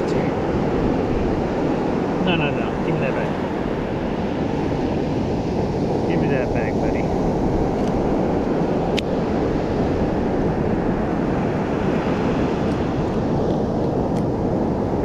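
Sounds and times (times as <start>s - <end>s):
ocean surf roaring: 0.0s - 15.0s
wind buffeting microphone: 0.0s - 15.0s.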